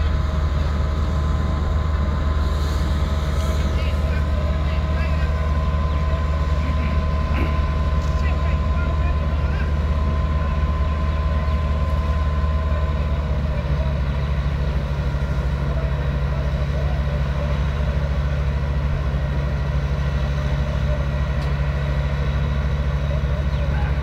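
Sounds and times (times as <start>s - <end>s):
diesel engines droning: 0.0s - 24.0s.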